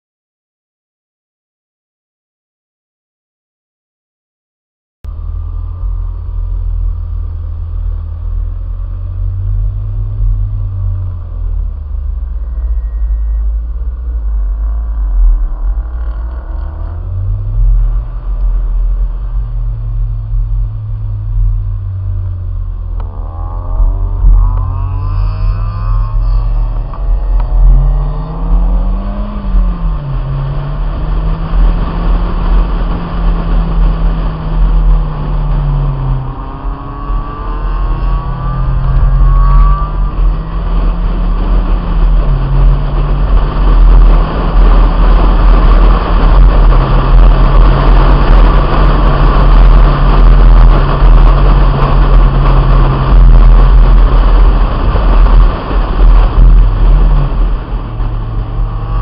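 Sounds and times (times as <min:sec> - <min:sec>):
car engine revving: 0:05.1 - 0:59.0
wind buffeting microphone: 0:05.2 - 0:59.0.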